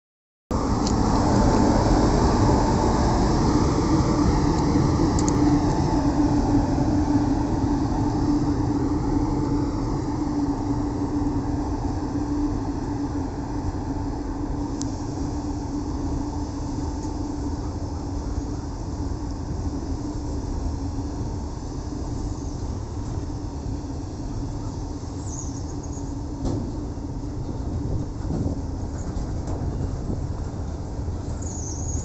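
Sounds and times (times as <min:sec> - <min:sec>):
goods train rumbling: 0:00.5 - 0:32.0
steady hum: 0:00.5 - 0:32.0.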